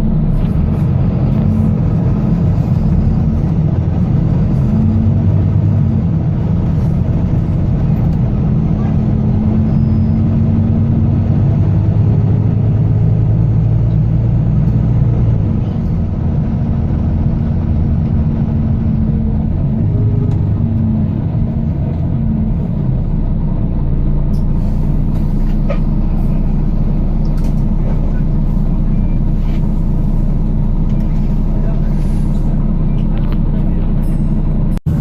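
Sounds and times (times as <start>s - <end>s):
bus diesel engine drone: 0.0s - 35.0s.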